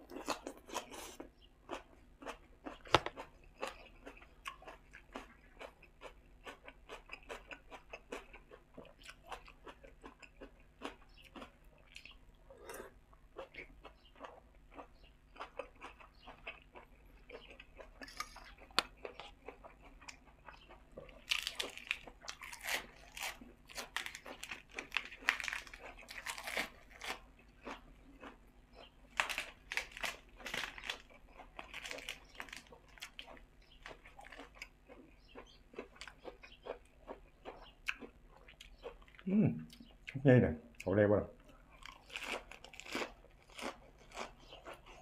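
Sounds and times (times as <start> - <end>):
person chewing and crunching: 0.0 - 40.2, 40.8 - 45.0.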